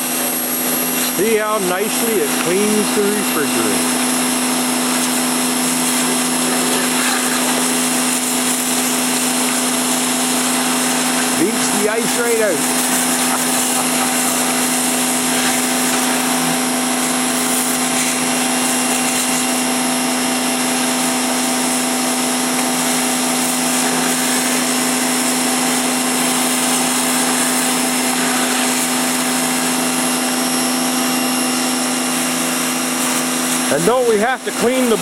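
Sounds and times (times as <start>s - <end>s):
high-pressure spray hissing: 0.0s - 35.0s
pressure washer motor humming: 0.0s - 35.0s.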